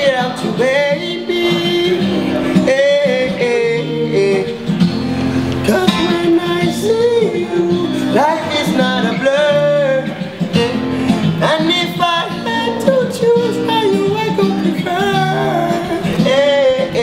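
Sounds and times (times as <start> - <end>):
acoustic guitar chords: 0.0 - 17.0
man singing: 0.0 - 17.0.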